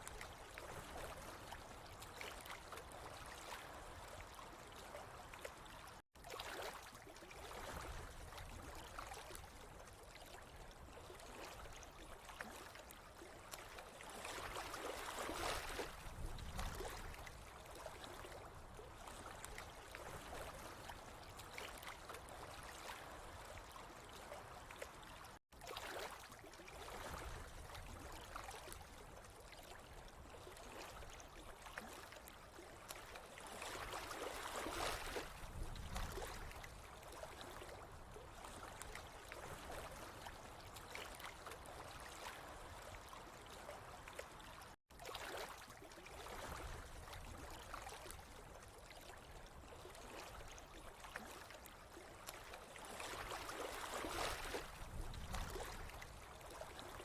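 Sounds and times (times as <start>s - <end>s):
water trickling and gurgling: 0.0s - 57.0s.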